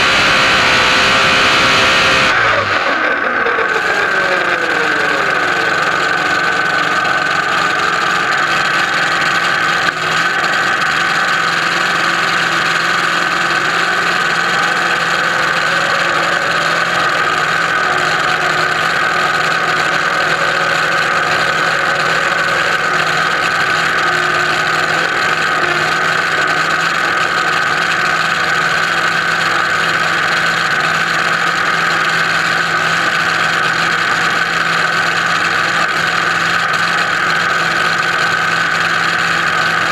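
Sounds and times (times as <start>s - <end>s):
dragster engine idling: 0.0s - 39.9s.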